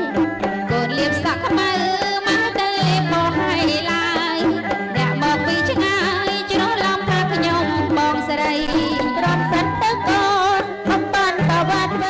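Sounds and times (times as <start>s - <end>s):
folk song with ornamented singing: 0.0s - 12.0s.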